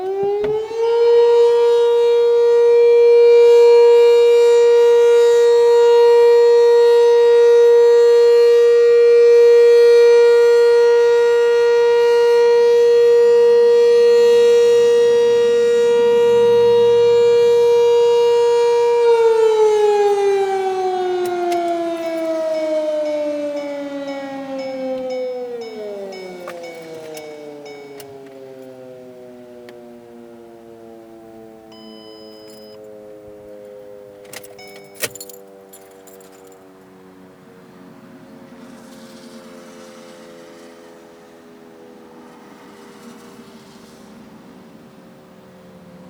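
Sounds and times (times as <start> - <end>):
civil defense siren: 0.0 - 46.0.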